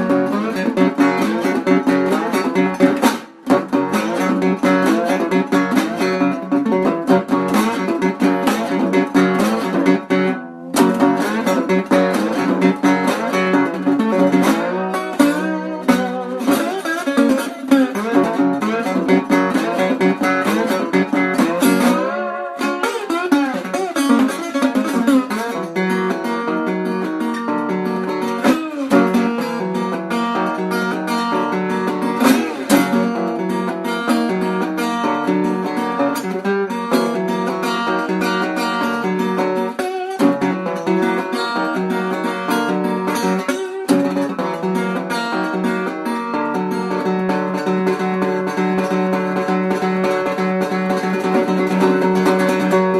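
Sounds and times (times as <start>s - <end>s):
blues on acoustic guitar: 0.0s - 52.9s.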